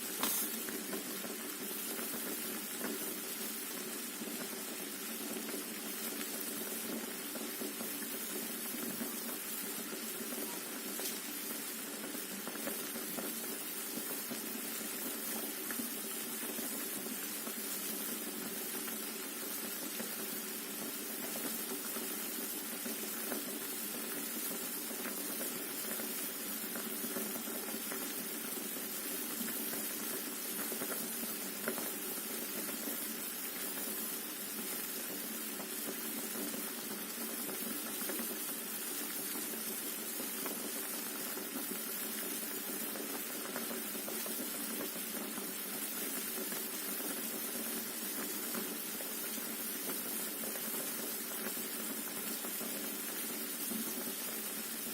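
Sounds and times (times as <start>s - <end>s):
water boiling in a pot: 0.0s - 54.9s.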